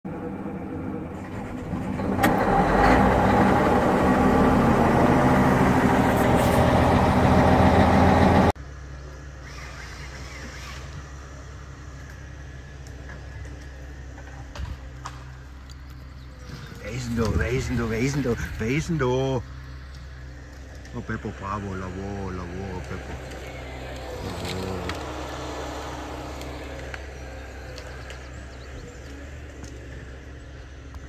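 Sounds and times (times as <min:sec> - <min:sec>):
engine starting and running: 0:00.0 - 0:31.0.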